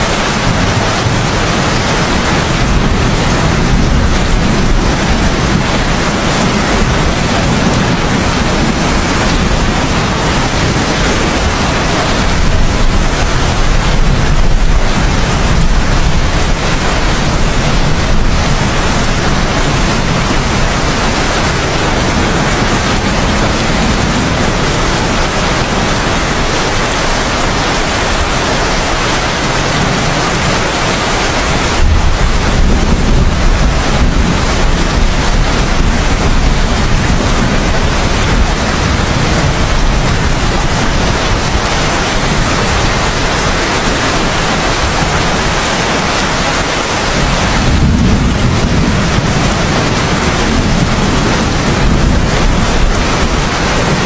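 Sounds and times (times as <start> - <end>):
heavy rain downpour: 0.0 - 54.0
thunder rumbling: 0.0 - 54.0.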